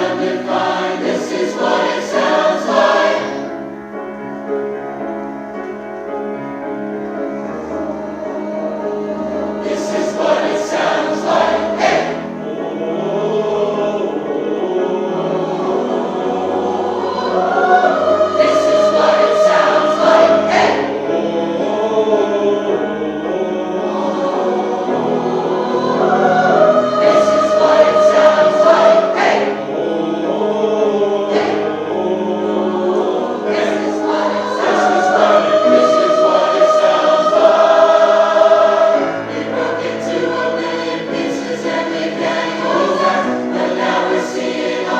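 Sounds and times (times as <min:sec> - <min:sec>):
chorus singing with accompaniment: 0:00.0 - 0:03.8, 0:06.7 - 0:44.9.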